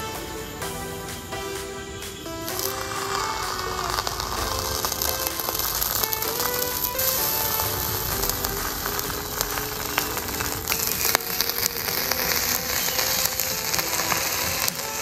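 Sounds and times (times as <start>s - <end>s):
background music: 0.0s - 15.0s
hot metal sizzling on jelly: 2.5s - 15.0s.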